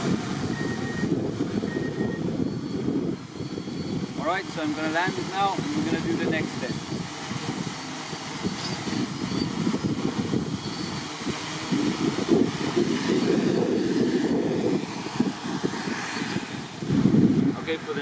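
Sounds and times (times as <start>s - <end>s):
drone propellers whirring: 0.0s - 18.0s
wind on microphone: 0.0s - 18.0s.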